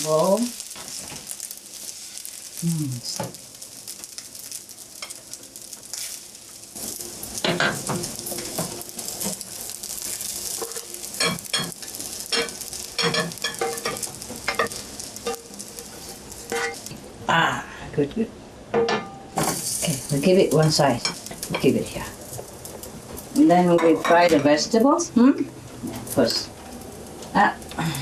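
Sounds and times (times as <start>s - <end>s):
rice sizzling in a hot pan: 0.0s - 18.0s, 19.2s - 28.0s.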